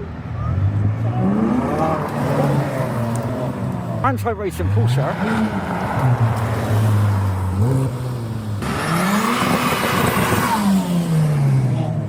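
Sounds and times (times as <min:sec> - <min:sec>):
car engine revving: 0:00.0 - 0:12.0
loud exhaust rush: 0:00.0 - 0:12.0.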